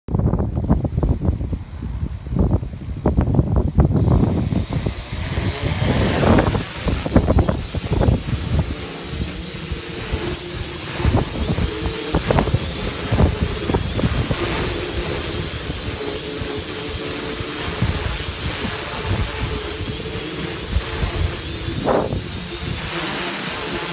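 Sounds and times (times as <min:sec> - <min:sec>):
drone propellers buzzing: 0:00.1 - 0:23.9
wind buffeting microphone: 0:00.1 - 0:23.9.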